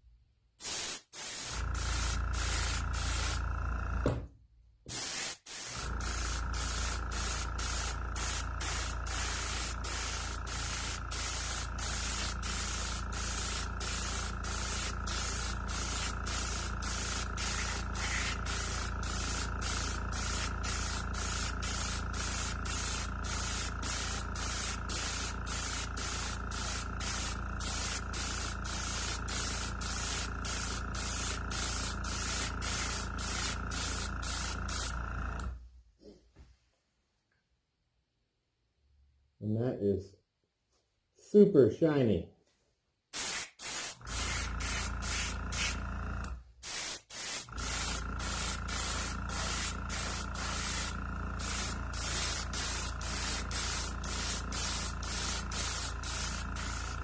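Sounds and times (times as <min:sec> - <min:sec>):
airbrush spraying hiss: 0:00.6 - 0:03.8, 0:04.9 - 0:35.2, 0:43.2 - 0:45.9, 0:46.6 - 0:57.0
air compressor humming: 0:00.6 - 0:35.6, 0:43.2 - 0:57.0.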